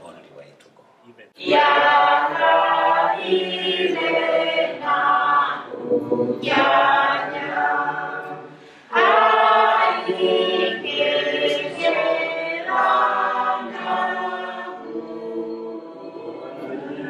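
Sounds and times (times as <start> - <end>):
group singing a cappella: 1.4 - 17.0.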